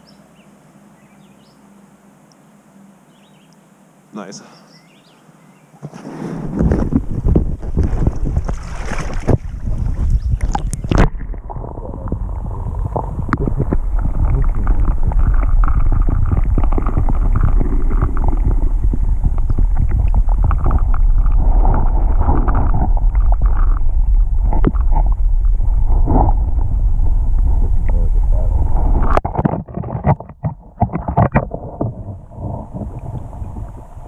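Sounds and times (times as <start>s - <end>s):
underwater river churning: 6.0s - 34.0s.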